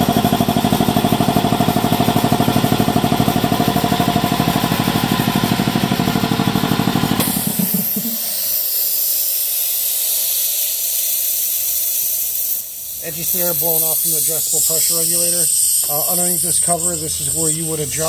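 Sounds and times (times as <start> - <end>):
air compressor pulsing: 0.0 - 18.0
air hissing from regulator: 0.0 - 18.0.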